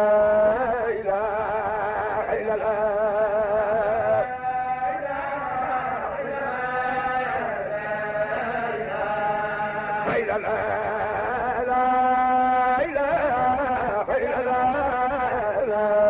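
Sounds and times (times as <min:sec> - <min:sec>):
person chanting: 0:00.0 - 0:16.0.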